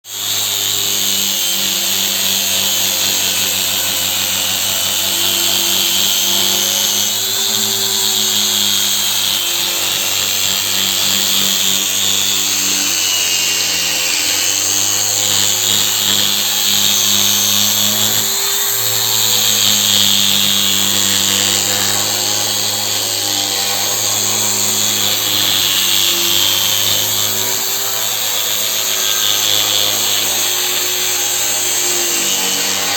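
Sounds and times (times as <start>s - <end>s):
orbital sander motor hum: 0.1s - 32.9s.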